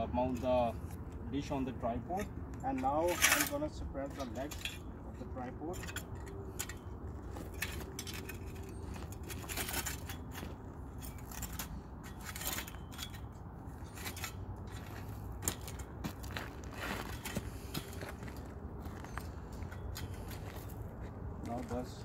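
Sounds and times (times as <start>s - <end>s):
metal legs scraping: 0.0s - 21.9s.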